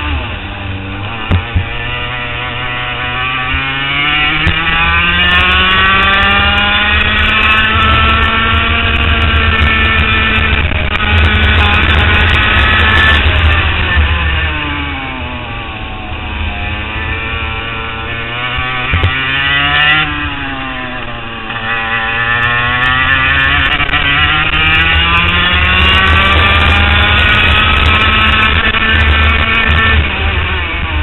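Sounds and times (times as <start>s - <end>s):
kart engine revving: 0.0s - 31.0s.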